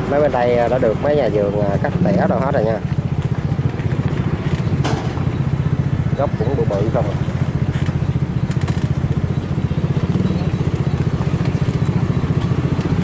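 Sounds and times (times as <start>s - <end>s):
engine running with low throb: 0.0s - 13.0s.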